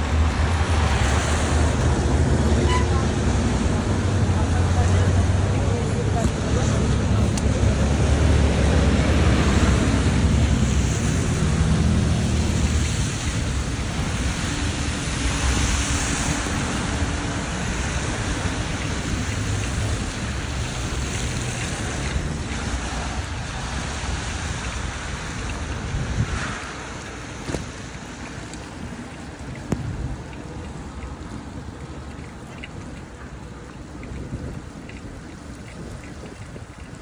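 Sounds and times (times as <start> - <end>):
car tyres hissing on wet road: 0.0 - 37.0
wind buffeting microphone: 0.0 - 37.0.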